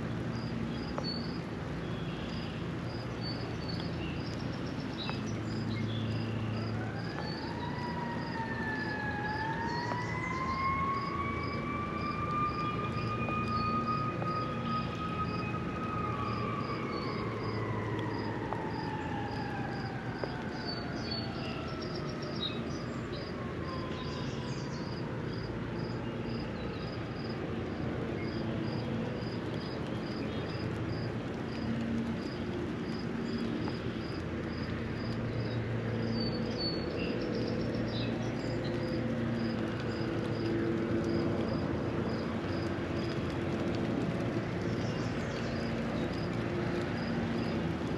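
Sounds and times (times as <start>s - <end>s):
distant traffic: 0.0s - 47.9s
rain: 0.0s - 47.9s.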